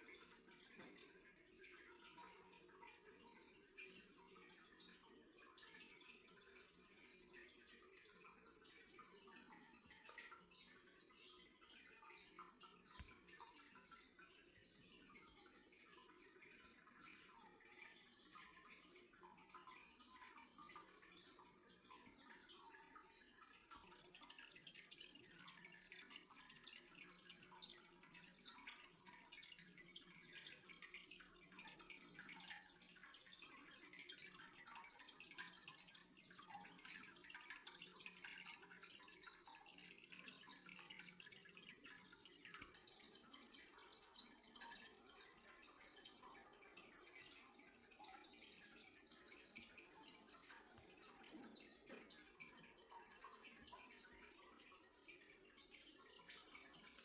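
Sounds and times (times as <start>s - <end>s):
faint dripping water: 0.0s - 57.0s.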